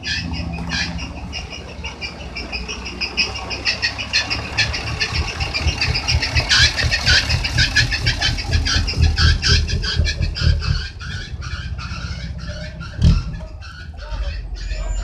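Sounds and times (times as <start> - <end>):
coach engine idling: 0.0 - 15.0.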